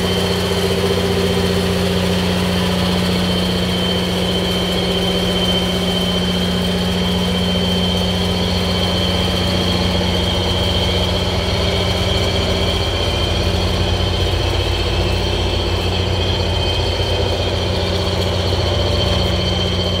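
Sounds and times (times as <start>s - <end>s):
diesel locomotive idling: 0.0s - 20.0s
thin high whine: 0.0s - 20.0s.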